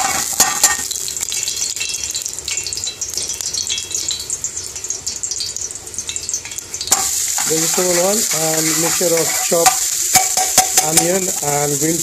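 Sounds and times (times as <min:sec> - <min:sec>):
oil sizzling in frying pan: 0:00.0 - 0:12.0.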